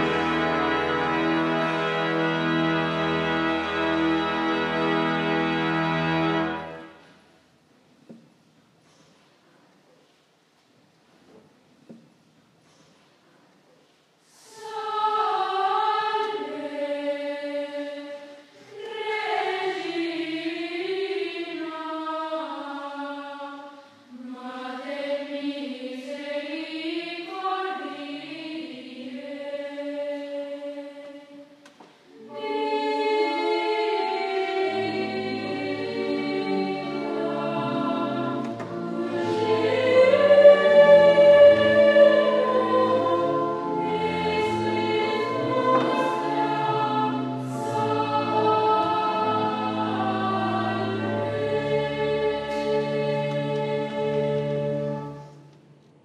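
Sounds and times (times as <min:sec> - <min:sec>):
children's choir singing: 0:00.0 - 0:07.2, 0:14.3 - 0:55.6.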